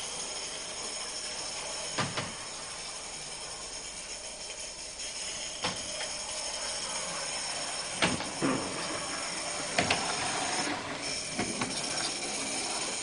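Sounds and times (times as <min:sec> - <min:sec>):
steam hiss: 0:00.0 - 0:13.0.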